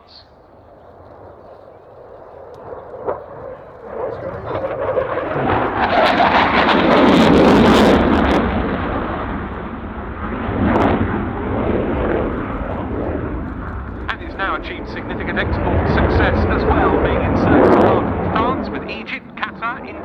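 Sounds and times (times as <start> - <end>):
jet engines rumbling loudly: 0.0 - 20.0.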